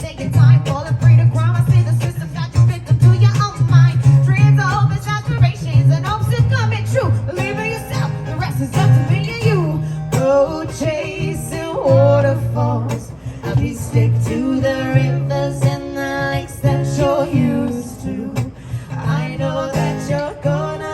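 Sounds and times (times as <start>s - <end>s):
bass line: 0.0s - 10.4s, 11.1s - 20.9s
guitar: 0.0s - 20.9s.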